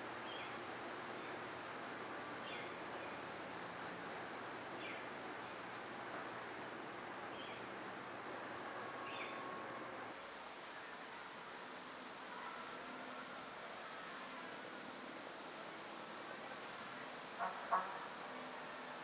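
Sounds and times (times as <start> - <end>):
high insect hum: 0.0 - 19.0.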